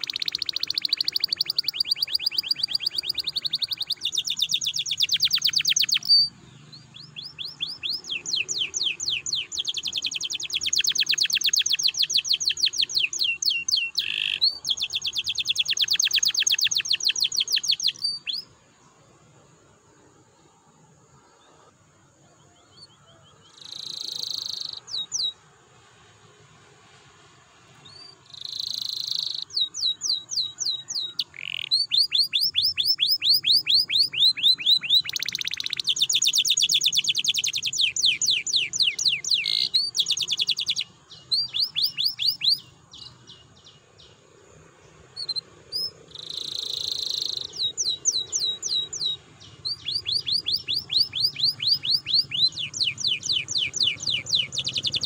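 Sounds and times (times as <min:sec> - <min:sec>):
canary singing trills: 0:00.0 - 0:18.6, 0:21.3 - 0:25.5, 0:27.8 - 0:44.2, 0:44.8 - 0:55.0.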